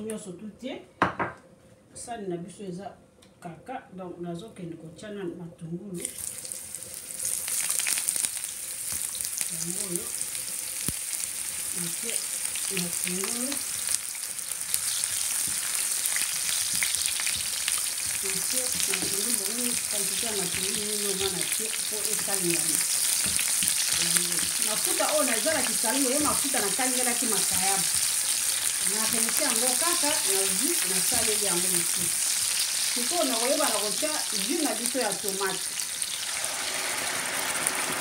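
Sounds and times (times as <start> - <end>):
onions sizzling in oil: 6.0 - 38.0.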